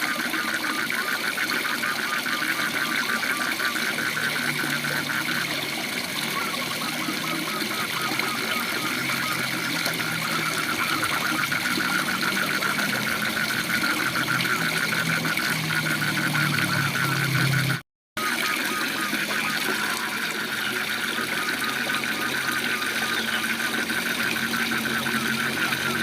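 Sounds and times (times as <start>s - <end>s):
frogs trilling: 0.0s - 26.0s.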